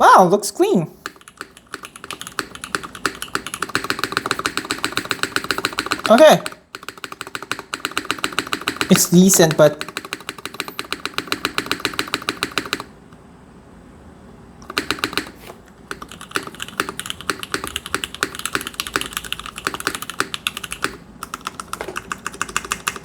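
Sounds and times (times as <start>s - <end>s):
keyboard typing: 1.0s - 12.9s, 14.6s - 23.0s.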